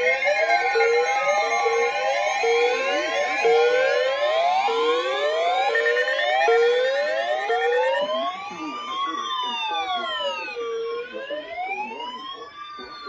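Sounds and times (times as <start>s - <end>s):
emergency vehicle sirens: 0.0s - 13.0s.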